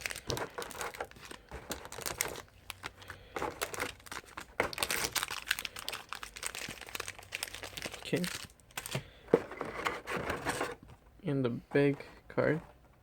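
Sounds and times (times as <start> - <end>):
plastic and foil wrappers crinkling: 0.0 - 10.7.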